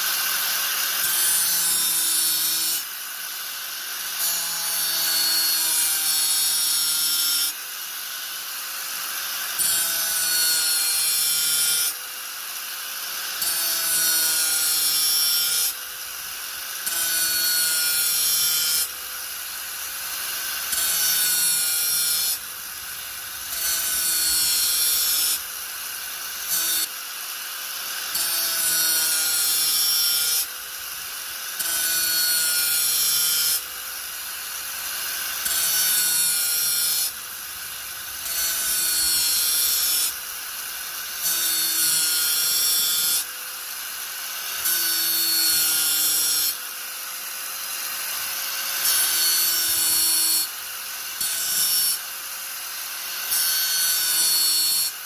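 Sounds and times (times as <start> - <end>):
angle grinder cutting: 0.0 - 55.0.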